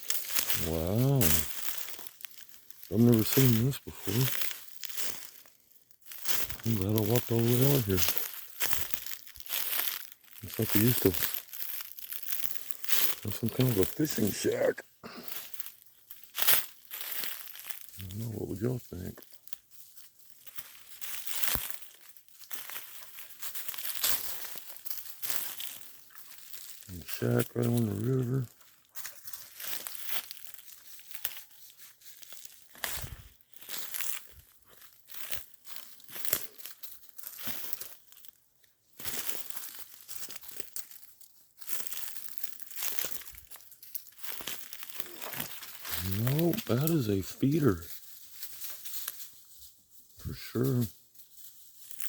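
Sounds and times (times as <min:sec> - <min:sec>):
footsteps crunching through dry leaves: 0:00.0 - 0:52.0.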